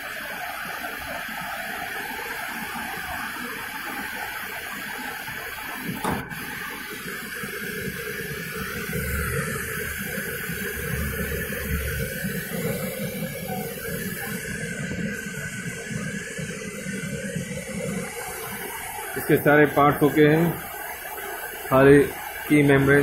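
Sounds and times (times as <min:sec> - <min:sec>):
microwave oven running: 0:00.0 - 0:23.0.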